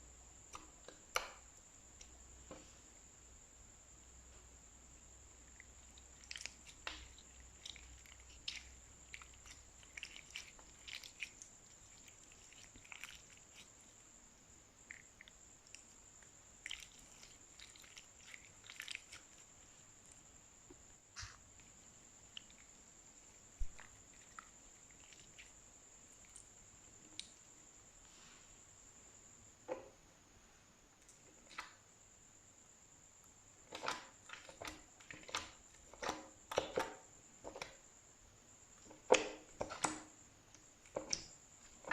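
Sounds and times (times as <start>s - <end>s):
faint high-pitched whine: 0.0s - 41.9s.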